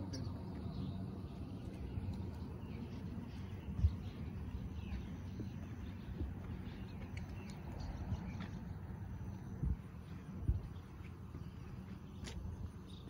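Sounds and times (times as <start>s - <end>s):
birds chirping faintly: 0.0s - 13.0s
steady low rumble: 0.0s - 13.0s.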